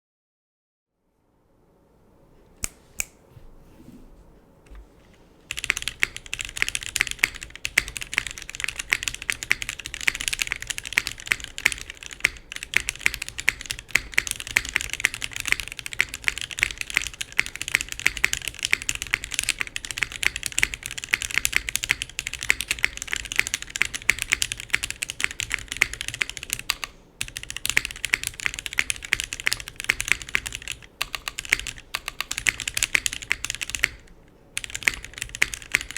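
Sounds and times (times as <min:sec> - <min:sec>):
mechanical keyboard typing: 0:05.5 - 0:35.9.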